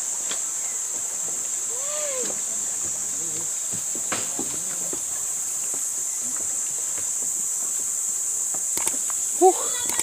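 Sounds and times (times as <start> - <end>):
insects droning: 0.0 - 10.0
faint footsteps: 0.1 - 9.3.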